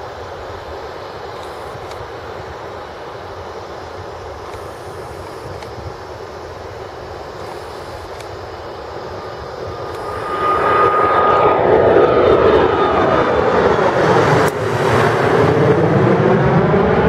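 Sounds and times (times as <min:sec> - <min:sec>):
jet taking off: 0:00.0 - 0:17.0.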